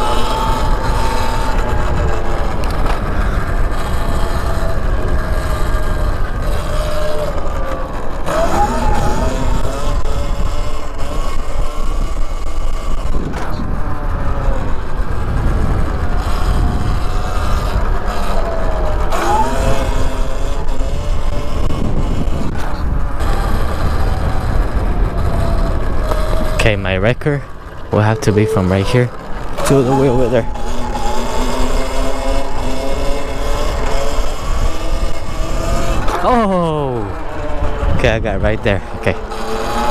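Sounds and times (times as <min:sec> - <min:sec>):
vehicle passing: 0:00.0 - 0:39.9
wind rumbling on microphone: 0:00.0 - 0:39.9.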